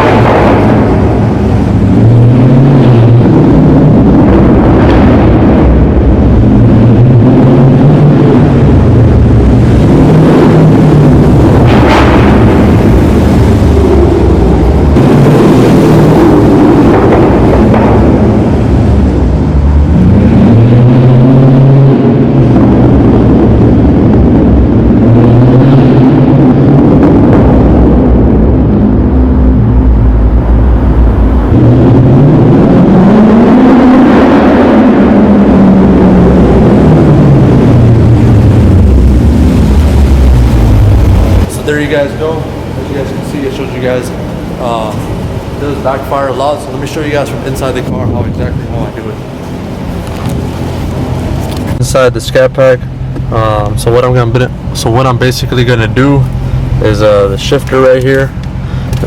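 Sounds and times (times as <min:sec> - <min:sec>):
loud deep car engine: 0:00.0 - 0:59.0.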